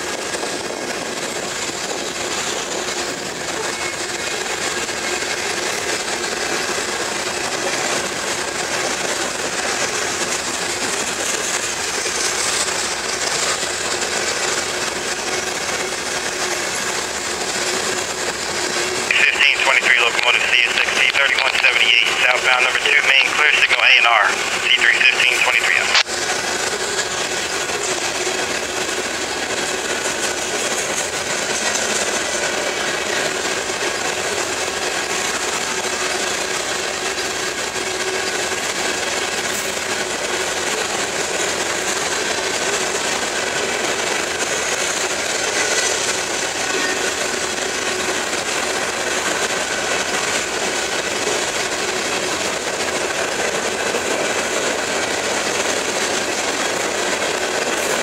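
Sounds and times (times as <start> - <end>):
train cars rattling: 0.0 - 19.1, 25.7 - 58.0
train wheels on rails: 0.0 - 58.0.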